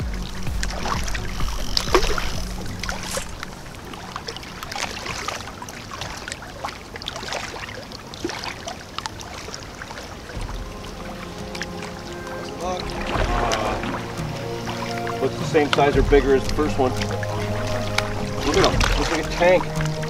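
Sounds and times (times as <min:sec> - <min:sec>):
river water lapping at bank: 0:00.0 - 0:20.0
small splashes and clicks: 0:00.1 - 0:20.0.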